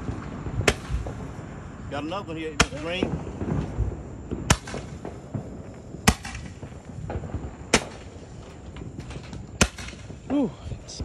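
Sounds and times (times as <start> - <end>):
roman candle firework pops: 0.0 - 11.0.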